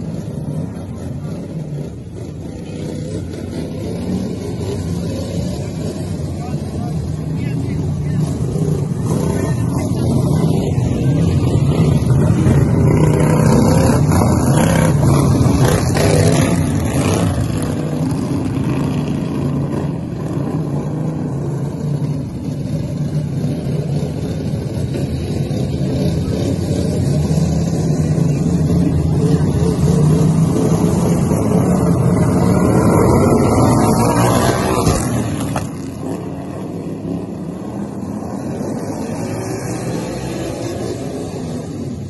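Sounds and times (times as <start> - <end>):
racing lawn mower engines: 0.0 - 42.0.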